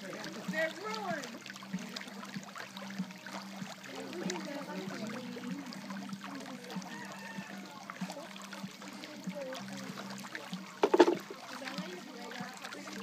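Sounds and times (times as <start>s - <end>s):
chatter of people talking: 0.0s - 13.0s.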